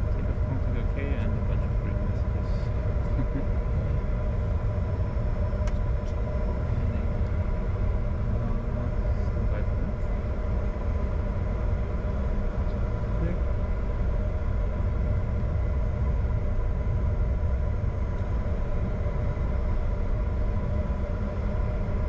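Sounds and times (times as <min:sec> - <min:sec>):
jet engines rumbling in cockpit: 0:00.0 - 0:22.0.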